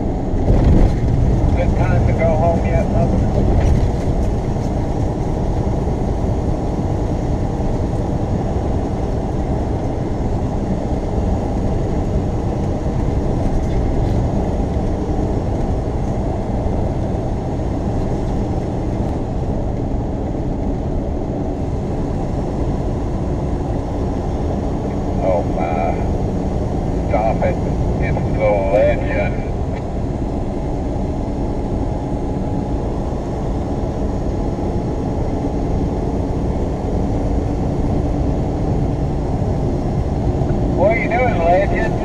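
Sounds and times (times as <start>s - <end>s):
truck engine and road noise: 0.0s - 42.0s.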